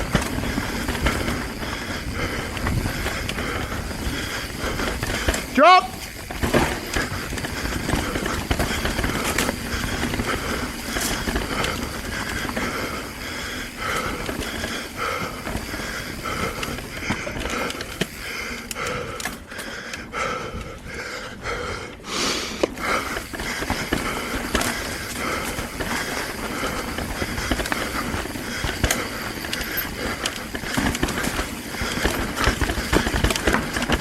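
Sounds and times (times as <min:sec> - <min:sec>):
bike knocks and rattles: 0:00.0 - 0:20.8, 0:22.6 - 0:34.0
mountain bike tyre noise: 0:00.0 - 0:34.0.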